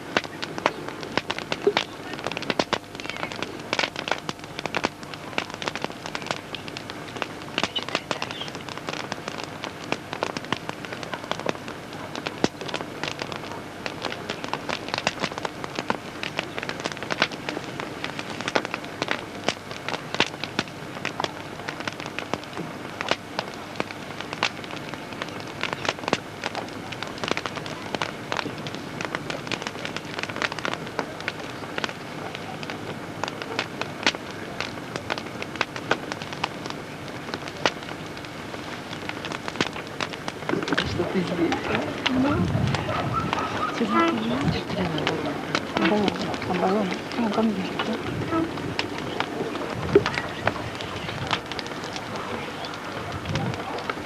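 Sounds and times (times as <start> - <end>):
campfire crackling and popping: 0.0 - 54.0
faint steady hum: 0.0 - 54.0.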